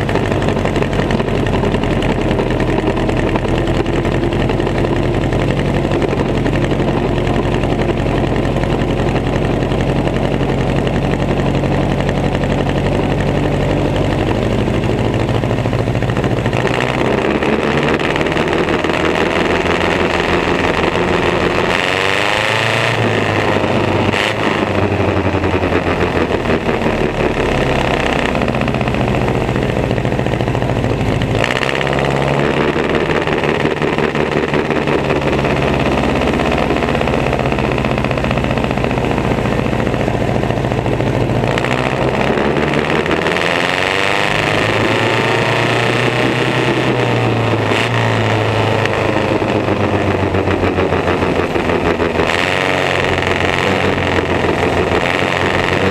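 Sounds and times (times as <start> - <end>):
race car engine revving: 0.0 - 55.9.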